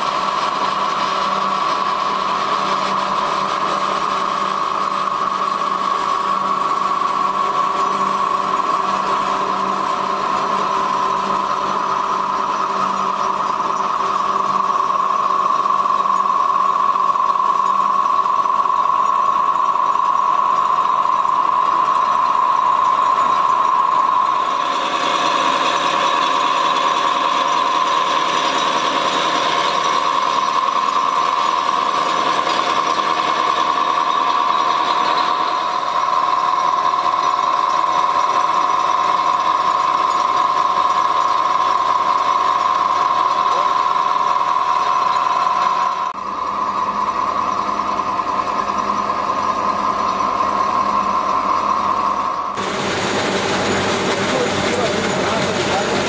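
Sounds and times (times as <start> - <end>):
brighter noisy machine layer: 0.0 - 56.0
factory machinery whining: 0.0 - 56.0.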